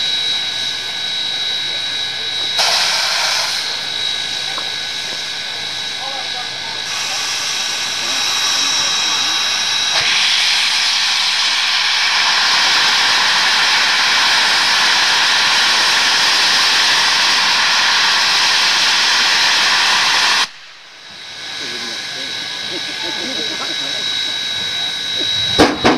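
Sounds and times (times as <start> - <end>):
steam locomotive hissing steam: 0.0 - 25.9.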